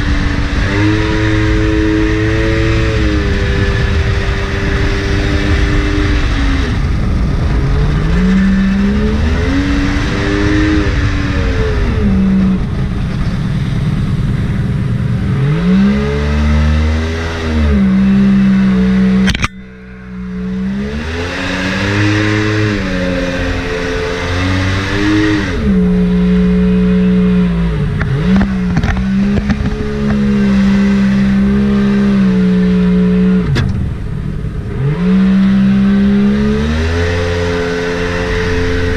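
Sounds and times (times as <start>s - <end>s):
watercraft engine revving: 0.0s - 38.9s.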